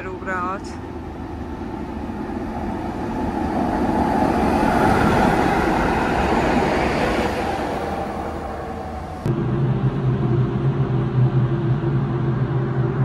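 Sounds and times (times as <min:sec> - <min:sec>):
tram passing by: 0:00.0 - 0:13.0.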